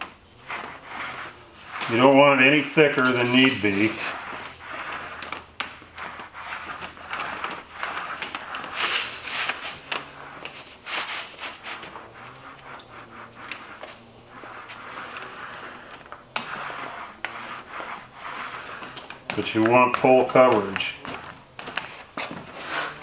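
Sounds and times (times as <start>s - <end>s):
paint roller rasping swishes: 0.0s - 23.0s.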